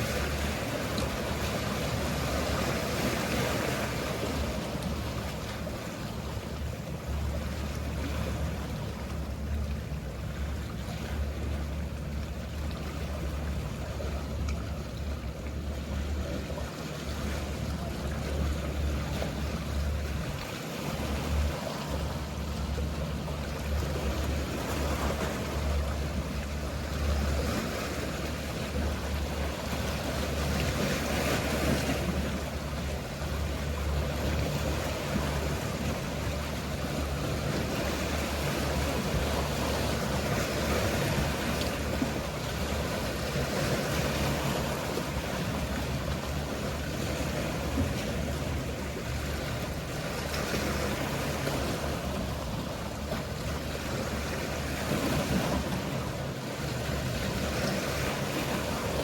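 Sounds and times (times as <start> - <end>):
boat engine humming: 0.0 - 59.0
sea waves washing: 0.0 - 59.0.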